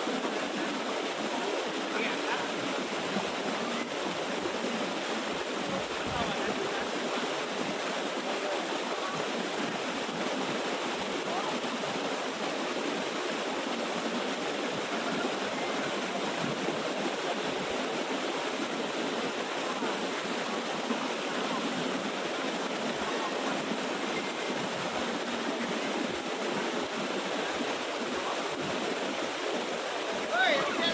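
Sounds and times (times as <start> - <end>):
small waterfall rushing: 0.0 - 30.9.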